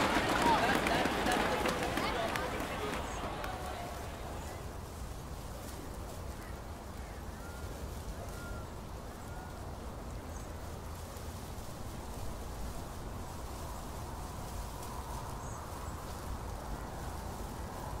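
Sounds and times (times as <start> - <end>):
low rumble of distant activity: 0.0 - 18.0.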